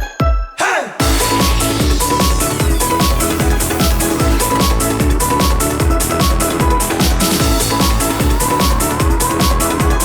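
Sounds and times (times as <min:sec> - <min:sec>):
electronic dance music: 0:00.0 - 0:10.0
fast kick-drum beat: 0:00.0 - 0:10.0
synth notes: 0:01.0 - 0:10.0.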